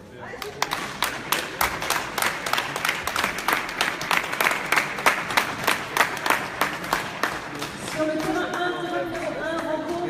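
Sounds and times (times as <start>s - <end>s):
people clapping: 0.2s - 10.0s.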